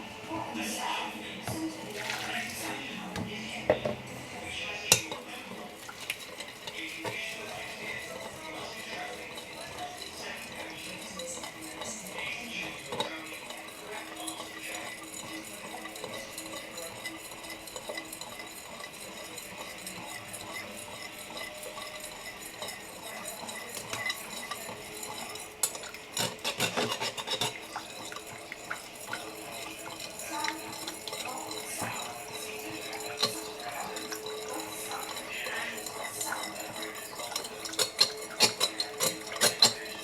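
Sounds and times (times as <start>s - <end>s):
utensil stirring in a pot: 0.0s - 40.0s
metal clinking on dishes: 1.4s - 40.0s.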